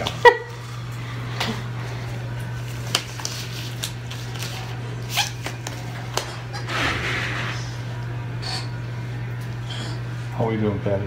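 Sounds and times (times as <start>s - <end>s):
dental equipment hum: 0.0s - 11.0s.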